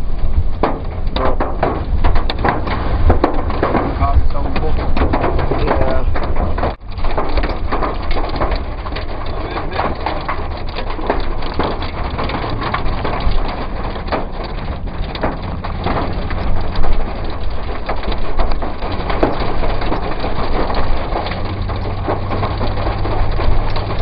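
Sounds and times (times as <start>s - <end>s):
car engine humming: 0.0s - 24.0s
rain drumming on car roof: 0.0s - 24.0s.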